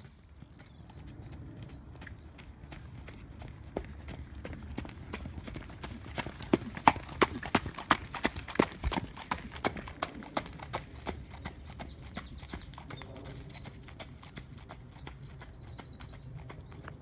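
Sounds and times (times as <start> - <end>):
horse hooves trotting on hard track: 0.0 - 17.0.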